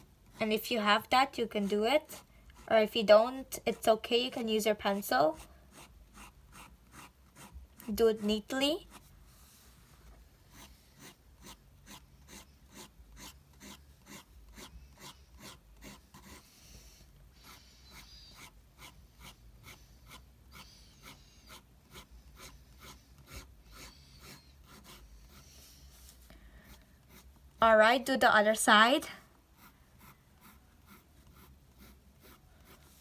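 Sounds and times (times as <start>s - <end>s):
pen scratching on paper: 0.2s - 2.9s, 3.8s - 9.1s, 10.5s - 27.6s, 29.5s - 33.0s.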